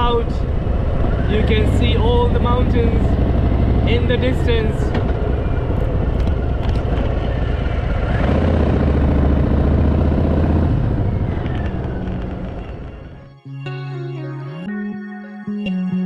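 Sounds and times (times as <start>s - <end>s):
motorcycle engine riding: 0.0s - 13.3s.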